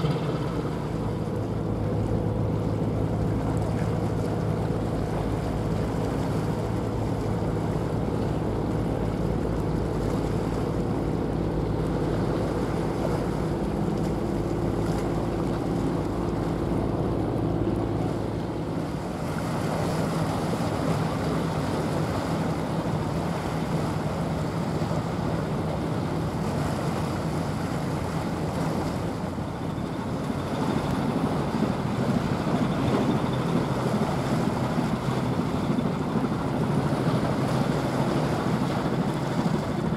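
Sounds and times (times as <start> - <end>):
ship diesel engine humming: 0.0 - 39.9
water rushing along hull: 0.0 - 39.9.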